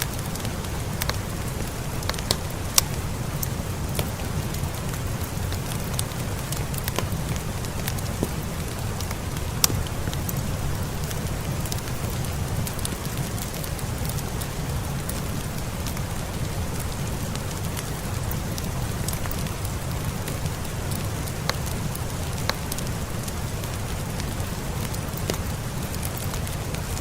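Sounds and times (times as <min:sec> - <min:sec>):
sharp ticks and crackles: 0:00.0 - 0:27.0
steady rain: 0:00.0 - 0:27.0.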